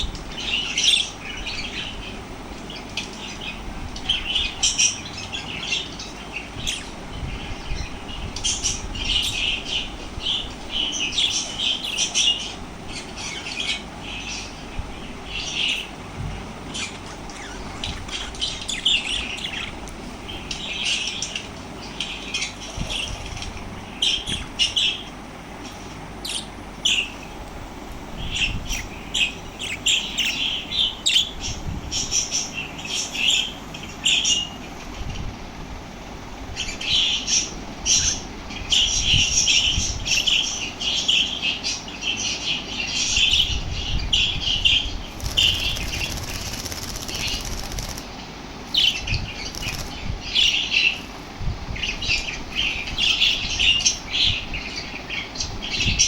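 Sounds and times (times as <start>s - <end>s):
parrots chirping and chattering: 0.0s - 35.3s, 36.4s - 56.0s.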